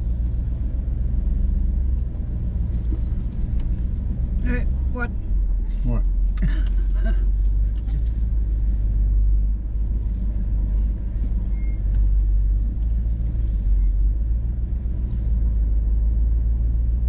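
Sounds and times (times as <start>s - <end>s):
engine rumbling from inside cab: 0.0s - 17.0s.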